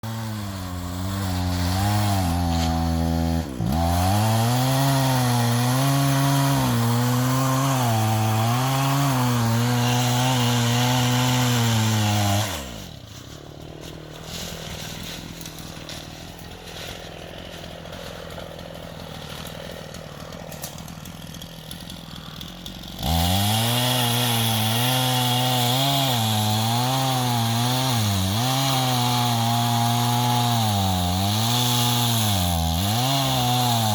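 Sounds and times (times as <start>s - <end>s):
chainsaw cutting logs: 0.0s - 33.9s.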